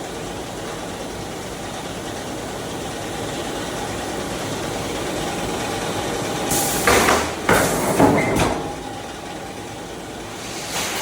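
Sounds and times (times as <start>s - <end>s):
production line machinery hum: 0.0s - 11.0s.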